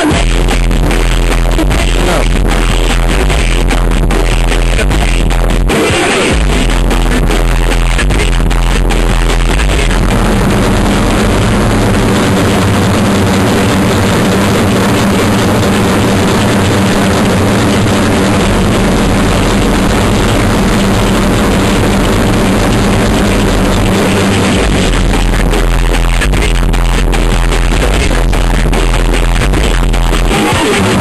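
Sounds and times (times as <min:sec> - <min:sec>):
loud distorted noise: 0:00.0 - 0:31.0.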